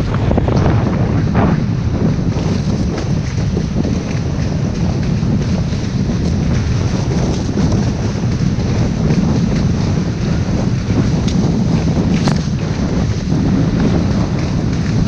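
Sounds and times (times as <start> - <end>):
rush of water and spray: 0.0 - 15.0
wind buffeting the microphone: 0.0 - 15.0.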